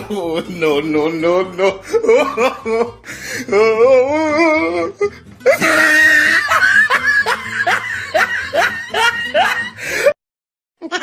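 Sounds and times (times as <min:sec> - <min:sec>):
person laughing: 0:00.0 - 0:10.2.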